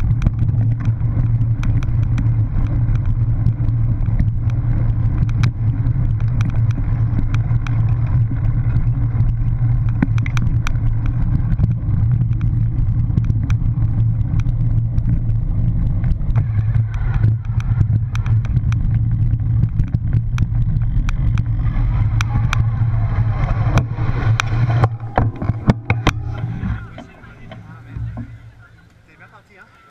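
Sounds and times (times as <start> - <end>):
bike rattling clicks: 0.0 - 29.1
wind rumbling on microphone: 0.0 - 29.9.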